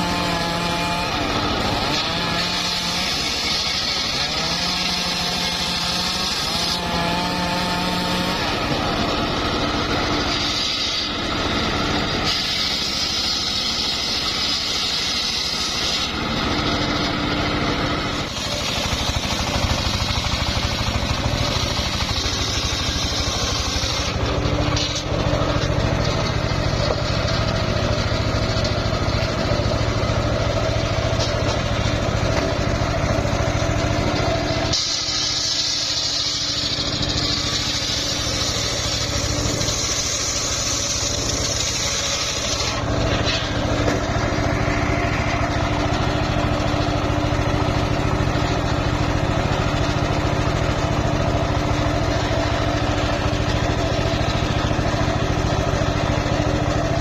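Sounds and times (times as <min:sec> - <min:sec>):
circular sawmill cutting log: 0:00.0 - 0:57.0.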